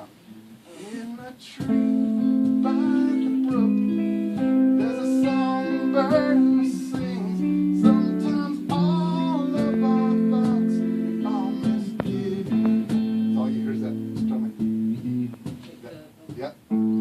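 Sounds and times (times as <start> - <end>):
picked lead guitar line: 1.6 - 15.8, 16.6 - 17.0
guitar chords: 1.6 - 17.0.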